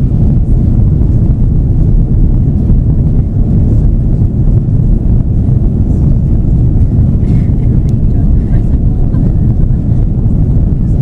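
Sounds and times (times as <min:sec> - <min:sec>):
jet engines at takeoff thrust: 0:00.0 - 0:11.0
runway rumble: 0:00.0 - 0:11.0.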